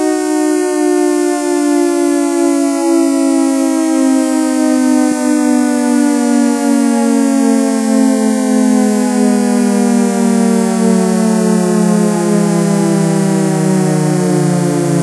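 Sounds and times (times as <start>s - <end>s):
siren falling chord tone: 0.0s - 15.0s.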